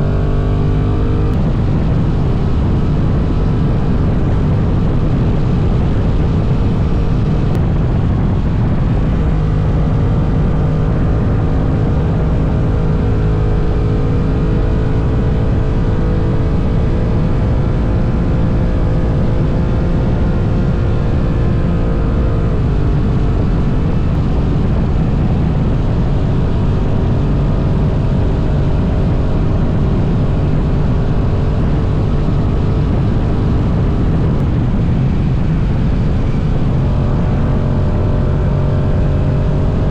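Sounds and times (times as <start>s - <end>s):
motorcycle engine running: 0.0s - 39.9s
wind noise rushing: 0.0s - 39.9s.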